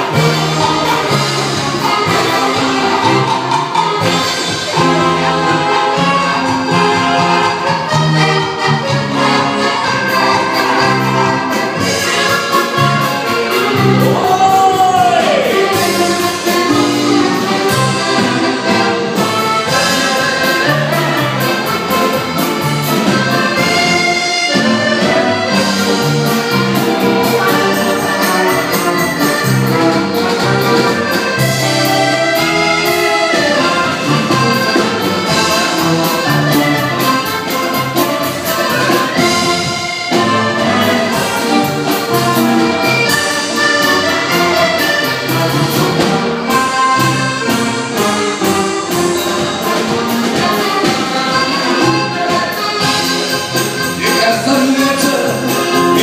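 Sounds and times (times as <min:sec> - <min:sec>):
accordion dance-band music: 0:00.0 - 0:56.0
bass: 0:00.0 - 0:56.0
keyboard brass-like lines: 0:00.0 - 0:56.0
steady beat: 0:00.0 - 0:56.0.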